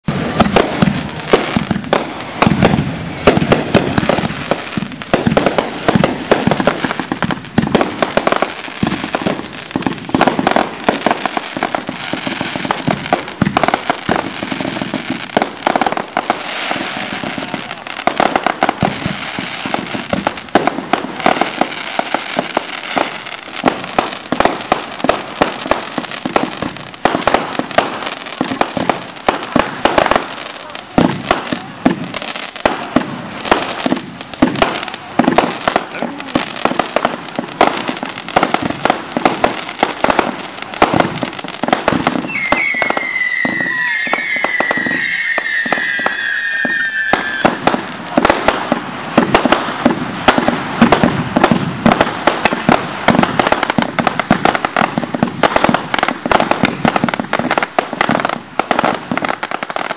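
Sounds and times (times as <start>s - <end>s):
fireworks bangs and crackle: 0.0s - 59.9s.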